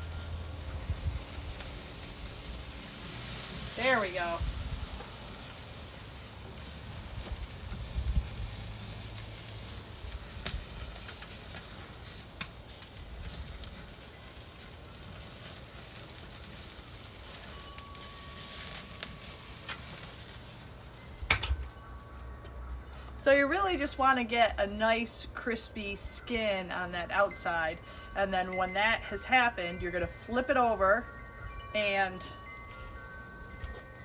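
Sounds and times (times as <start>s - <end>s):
chicken sizzling on a grill: 0.0s - 34.0s.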